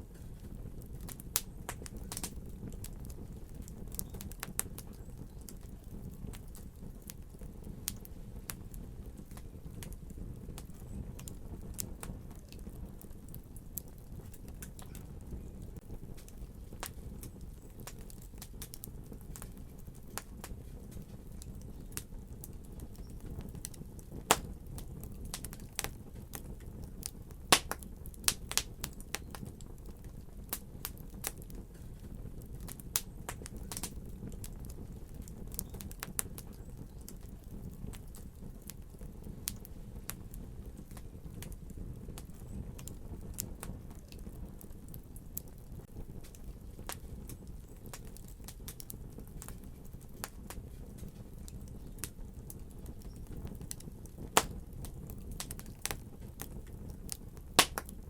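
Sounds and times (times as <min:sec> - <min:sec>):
fire pops and snaps: 0:00.0 - 0:58.0
low rumble of fire: 0:00.0 - 0:58.0.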